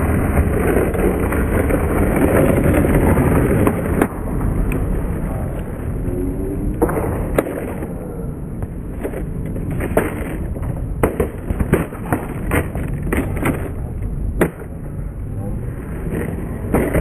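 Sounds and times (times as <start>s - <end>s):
skateboard clacking on ground: 0.0s - 5.6s, 6.6s - 14.9s, 15.7s - 17.0s
skateboard rolling on concrete: 0.0s - 17.0s.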